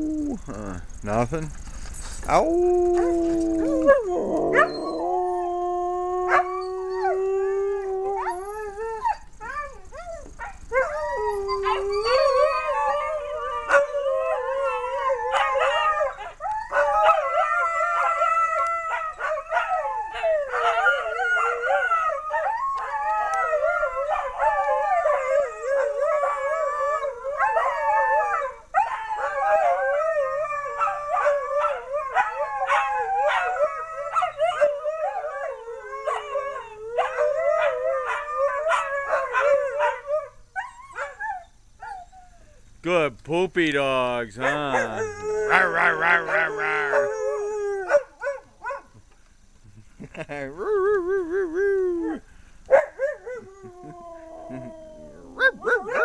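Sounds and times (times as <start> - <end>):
dogs howling: 2.3 - 42.4, 44.4 - 48.8, 50.6 - 56.0.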